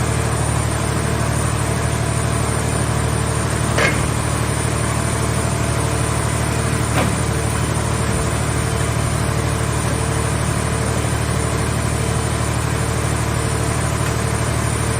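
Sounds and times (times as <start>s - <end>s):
baler power unit rumbling: 0.0s - 14.9s.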